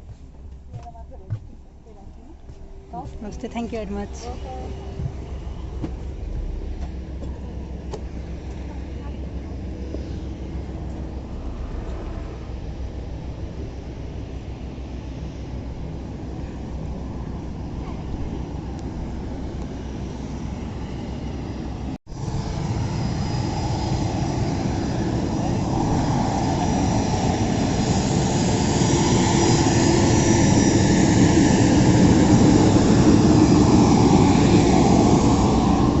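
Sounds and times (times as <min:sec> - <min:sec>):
aircraft engine rumble: 0:00.0 - 0:36.0.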